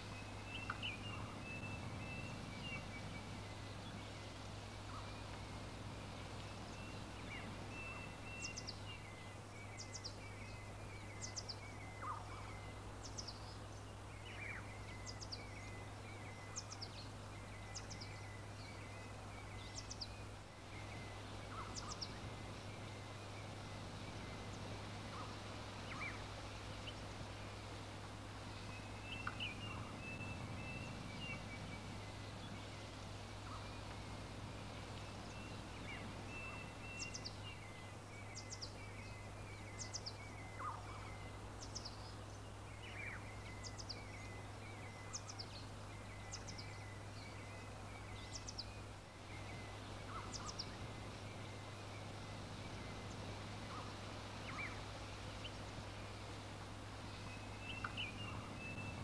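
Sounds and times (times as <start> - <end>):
small birds chirping: 0.0 - 59.0
steady low hum: 0.0 - 59.0
thin bird twittering: 0.0 - 59.0.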